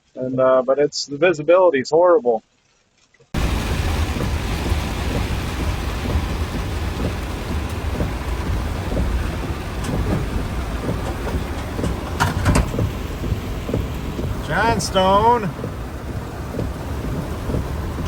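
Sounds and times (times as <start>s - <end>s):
low road rumble: 3.3s - 18.0s
heavy rain on a vehicle: 3.4s - 18.0s.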